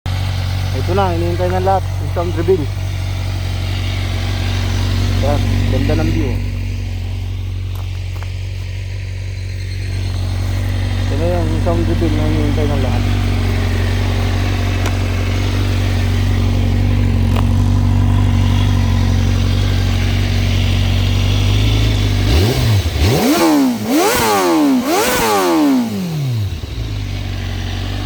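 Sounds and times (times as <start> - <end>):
motorcycle engine idling: 0.0 - 28.0
motorcycle engine revving: 0.1 - 28.0.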